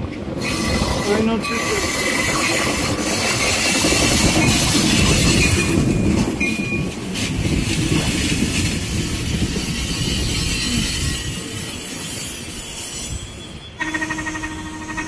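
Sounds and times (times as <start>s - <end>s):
train wheels rumbling on rail: 0.0s - 15.0s
wheel squeals: 0.0s - 15.0s.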